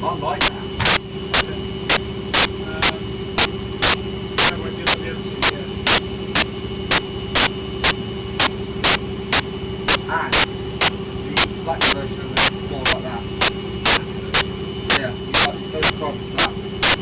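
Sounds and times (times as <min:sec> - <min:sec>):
motor hum: 0:00.0 - 0:17.0
washing machine rushing bursts: 0:00.0 - 0:17.0.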